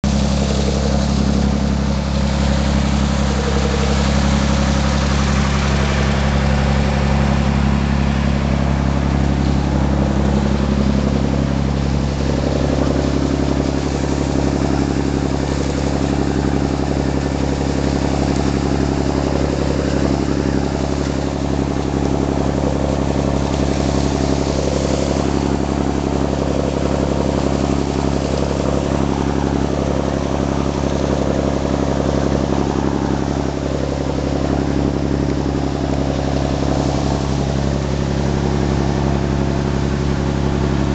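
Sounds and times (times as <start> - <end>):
boat engine running: 0.0 - 40.9
water rushing in wake: 0.0 - 40.9.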